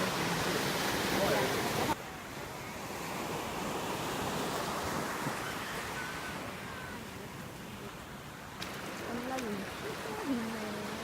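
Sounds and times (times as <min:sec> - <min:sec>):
waves washing onto beach: 0:00.0 - 0:11.0.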